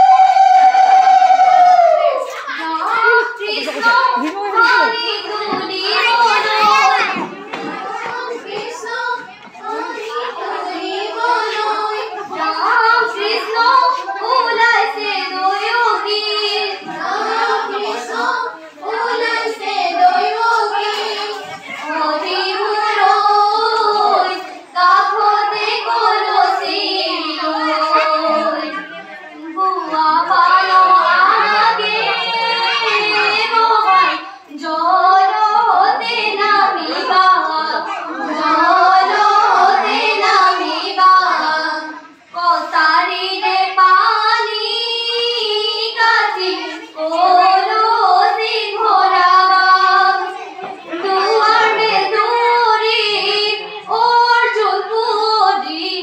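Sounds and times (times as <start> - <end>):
girls singing: 0.0 - 56.0.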